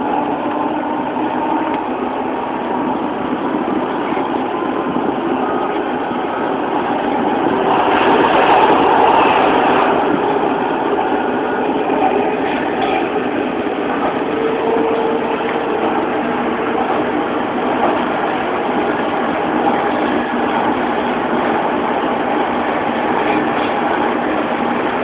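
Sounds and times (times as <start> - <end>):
faint train whine: 0.0 - 25.0
subway train rumbling: 0.0 - 25.0.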